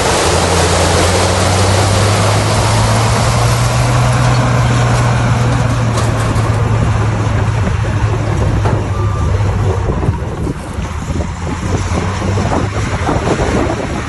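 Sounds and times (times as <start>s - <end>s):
bulldozer diesel engine droning: 0.0s - 14.0s
rough machine working noise: 0.0s - 14.0s.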